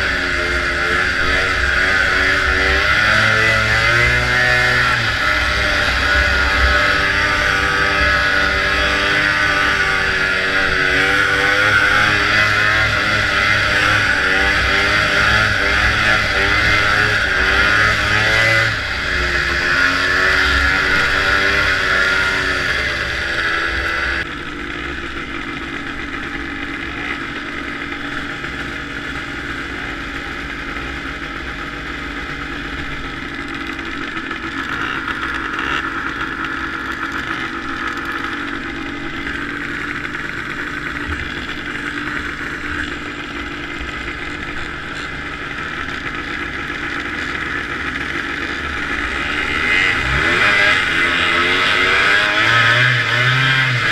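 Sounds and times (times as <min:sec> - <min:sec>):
snowmobile engine running hard: 0:00.0 - 0:53.9.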